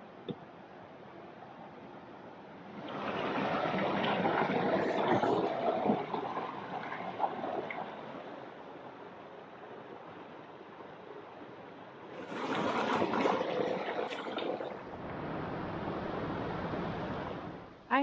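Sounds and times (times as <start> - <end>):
mountain stream rushing: 2.0 - 17.7.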